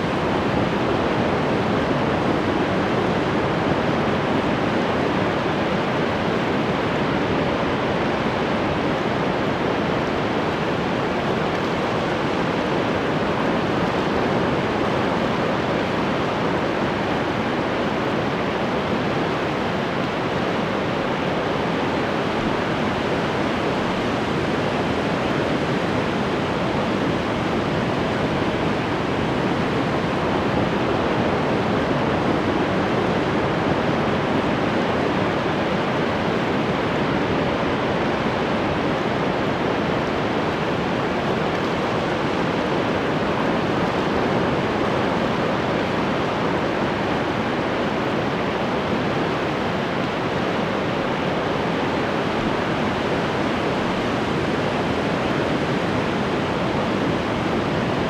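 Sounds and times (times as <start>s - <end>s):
ocean surf: 0.0s - 58.0s.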